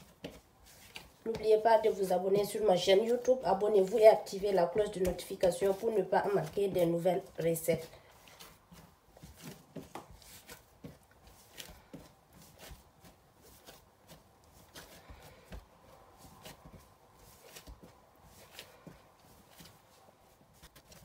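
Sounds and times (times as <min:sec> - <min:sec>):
hands patting dough: 0:00.0 - 0:21.0.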